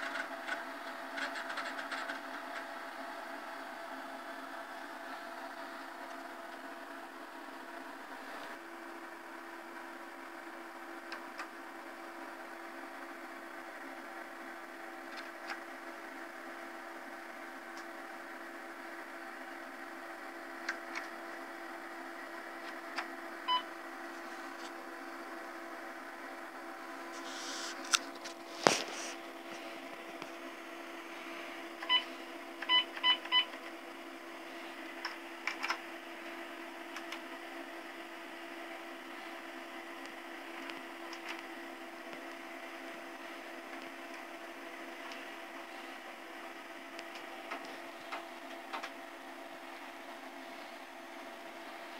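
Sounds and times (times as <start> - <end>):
computer fan and hard drive hum: 0.0 - 51.9.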